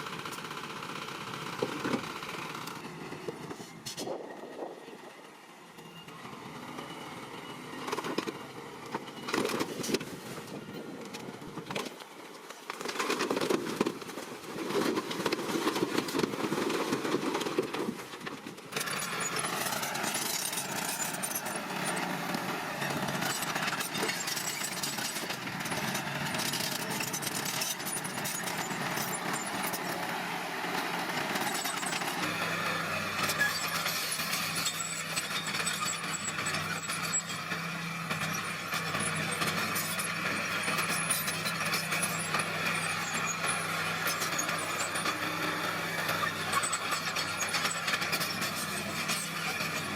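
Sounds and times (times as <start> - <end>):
bulldozer diesel engine under load: 0.0 - 49.9.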